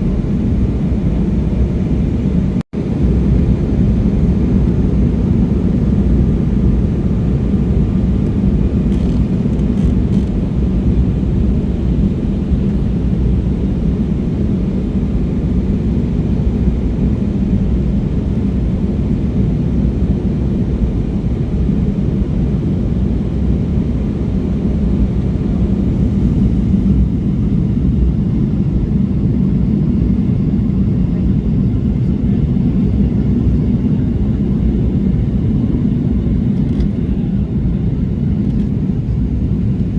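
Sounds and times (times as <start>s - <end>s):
jet cabin low rumble: 0.0s - 39.9s.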